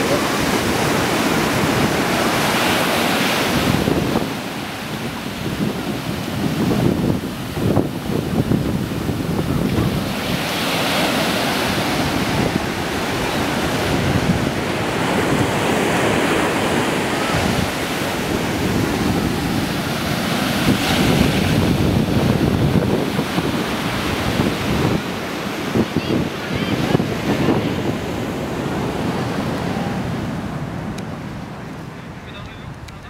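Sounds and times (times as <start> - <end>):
ocean surf breaking: 0.0 - 33.0
wind buffeting the microphone: 0.0 - 33.0.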